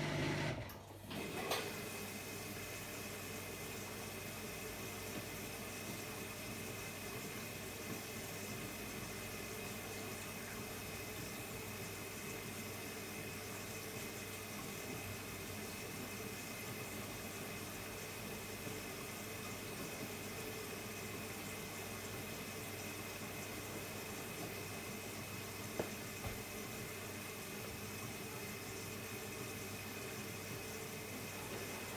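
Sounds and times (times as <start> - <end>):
water filling washing machine drum: 0.0 - 31.9.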